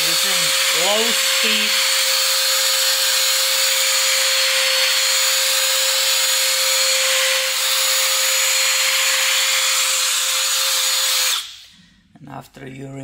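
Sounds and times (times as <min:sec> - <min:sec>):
cordless drill motor whine: 0:00.0 - 0:11.6.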